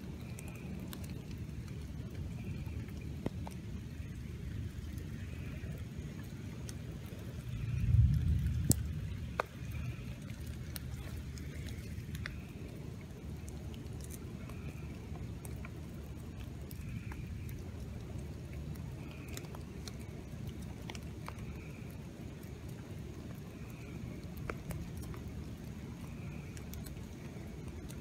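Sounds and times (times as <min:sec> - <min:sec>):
drips tapping on wet leaves: 0:00.0 - 0:28.0
low steady rain rumble: 0:00.0 - 0:28.0.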